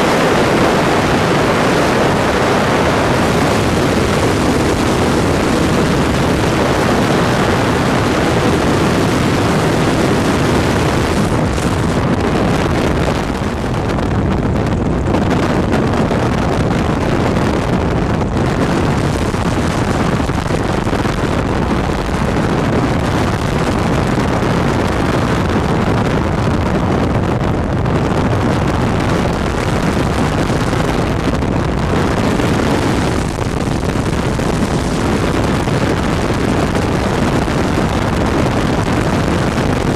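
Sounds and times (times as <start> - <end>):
aircraft engine running: 0.0 - 39.9
wind rushing on microphone: 0.0 - 39.9.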